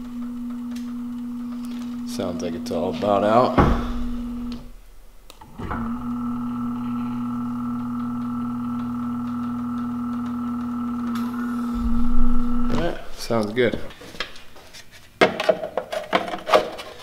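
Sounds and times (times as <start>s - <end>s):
hydraulic pump humming: 0.0s - 14.0s.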